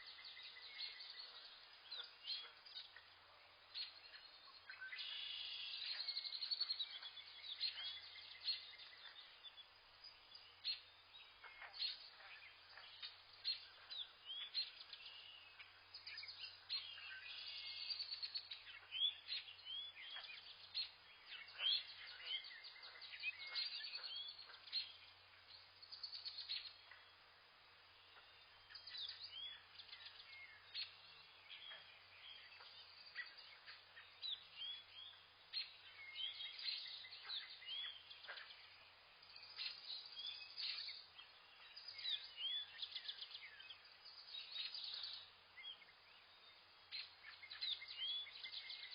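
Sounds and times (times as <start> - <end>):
birds chirping and calling: 0.0 - 27.2, 28.0 - 48.9.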